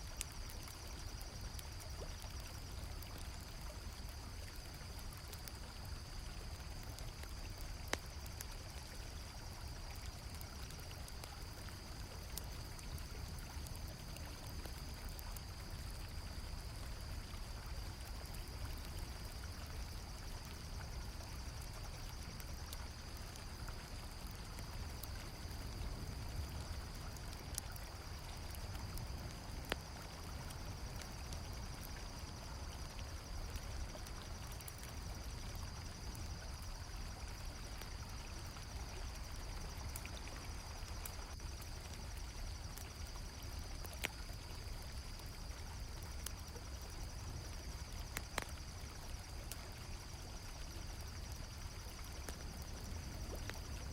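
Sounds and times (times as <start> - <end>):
campfire crackling: 0.0 - 53.9
crickets chirping: 0.0 - 53.9.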